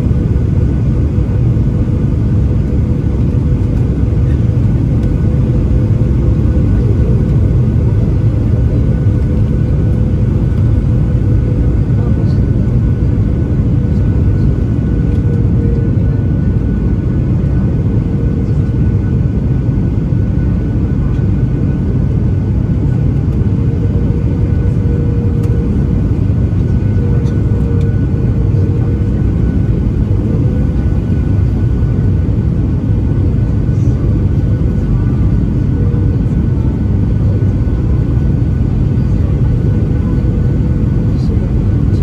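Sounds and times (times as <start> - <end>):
airplane cabin engine roar: 0.0 - 42.0.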